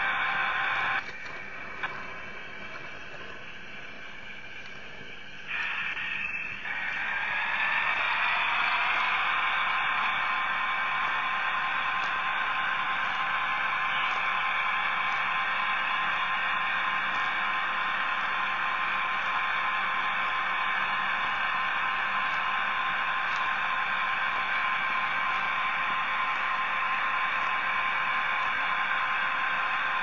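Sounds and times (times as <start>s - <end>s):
steady hiss with thin whine: 0.0s - 30.0s.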